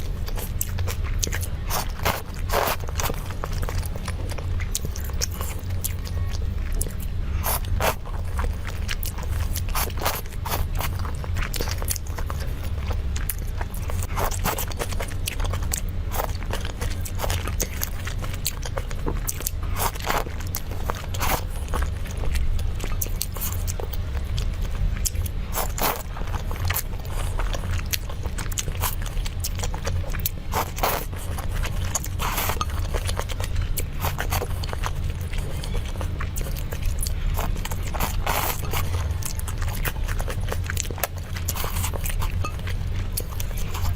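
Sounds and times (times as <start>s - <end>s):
crunchy chewing: 0.0s - 43.9s
low hum: 0.0s - 43.9s.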